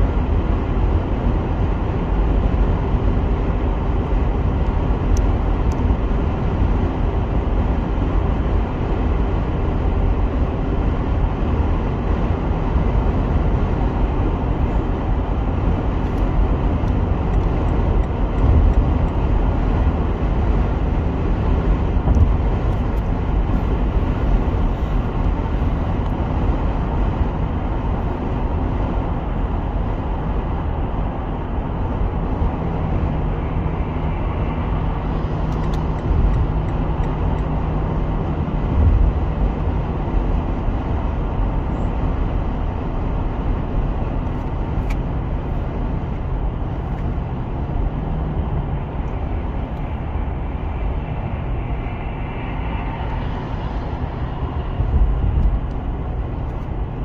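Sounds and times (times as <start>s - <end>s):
car road noise at speed: 0.0s - 57.0s.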